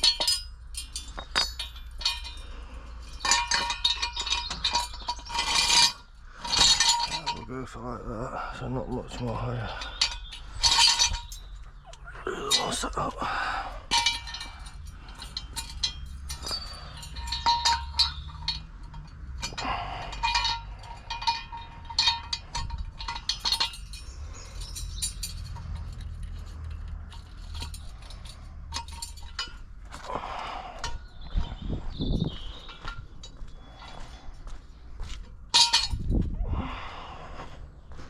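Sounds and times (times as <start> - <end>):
metal clinks of car jack: 0.0 - 34.3, 35.4 - 36.2.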